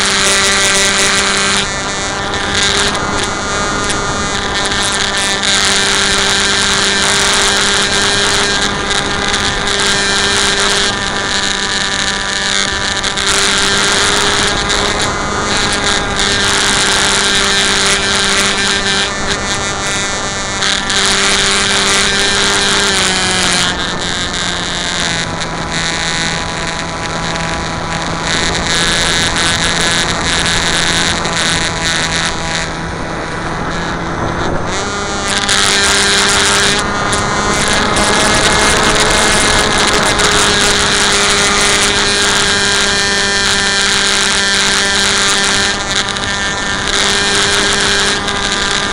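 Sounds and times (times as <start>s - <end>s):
electric motor and propeller droning: 0.0s - 48.9s.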